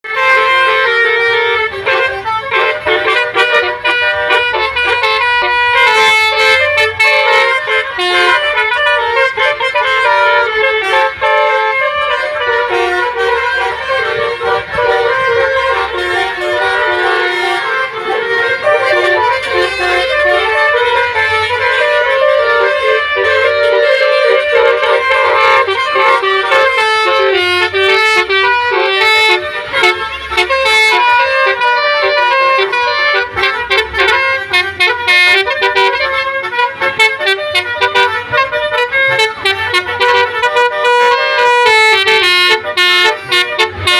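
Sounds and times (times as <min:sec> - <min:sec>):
multi-tone air horn melody: 0:00.0 - 0:43.9.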